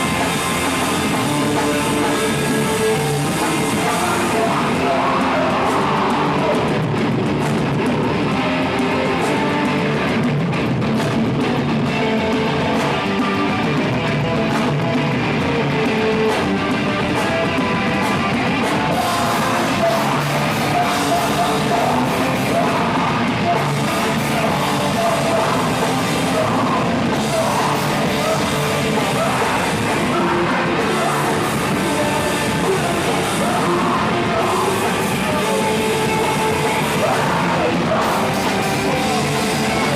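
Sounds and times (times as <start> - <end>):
person singing: 0.0 - 10.2, 11.8 - 39.9
distorted guitars: 0.0 - 39.9
drum kit: 0.0 - 39.9.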